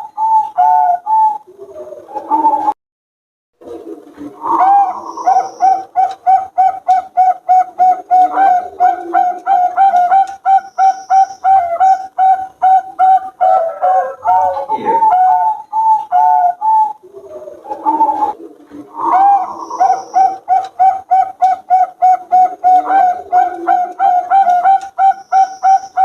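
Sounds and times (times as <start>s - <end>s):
doves cooing: 0.0s - 2.8s, 3.6s - 26.0s.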